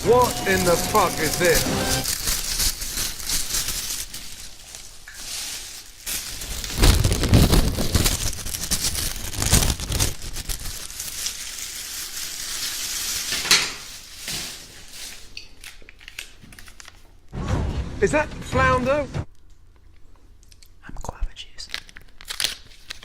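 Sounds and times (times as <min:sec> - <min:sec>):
dense crackling and crinkling: 0:00.0 - 0:17.3, 0:21.6 - 0:23.0.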